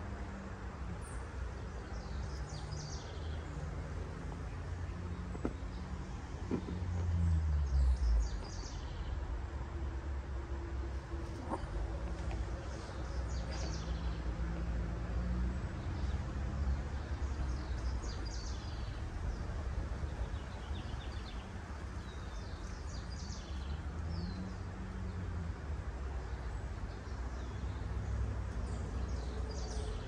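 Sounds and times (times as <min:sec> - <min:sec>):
small birds chirping: 0:00.9 - 0:09.2, 0:11.2 - 0:14.7, 0:15.6 - 0:30.0.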